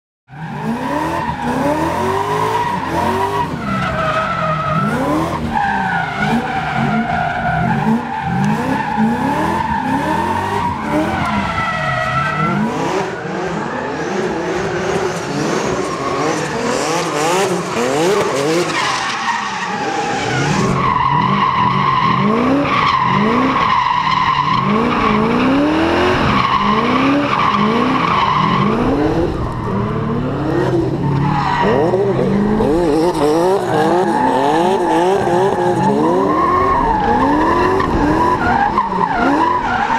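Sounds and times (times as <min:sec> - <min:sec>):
car engines revving: 0:00.3 - 0:39.9.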